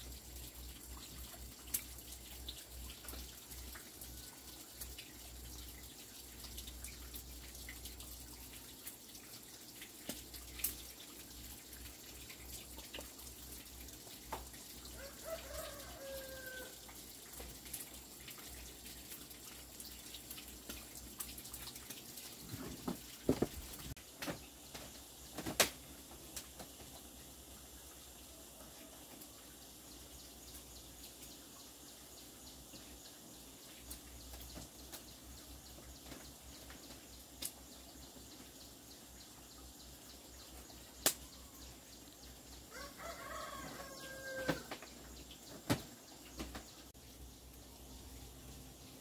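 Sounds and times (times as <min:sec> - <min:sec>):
faint clicks and drip-like taps: 0:00.1 - 0:16.0, 0:16.8 - 0:42.7, 0:43.6 - 0:47.8.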